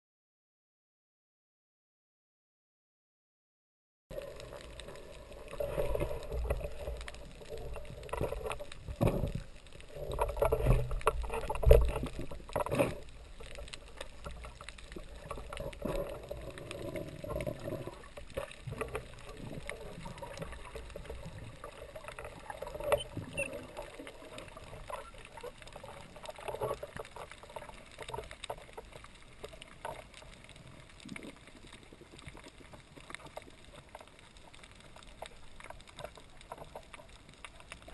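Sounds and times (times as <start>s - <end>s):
low underwater rumbles: 4.1s - 37.9s
muffled rush of water: 4.1s - 37.9s.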